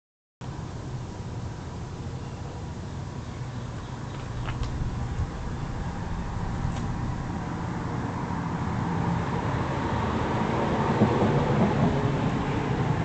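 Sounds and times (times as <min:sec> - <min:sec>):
road traffic rumble: 0:00.4 - 0:13.0.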